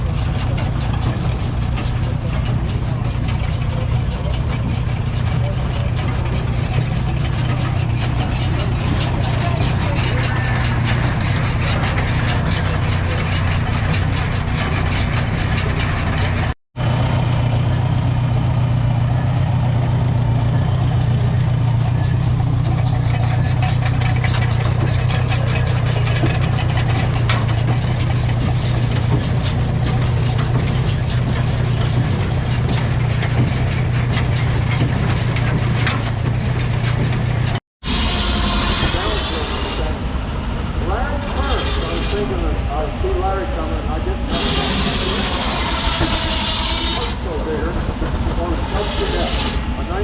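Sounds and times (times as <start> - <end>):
engine idling: 0.0 - 50.0.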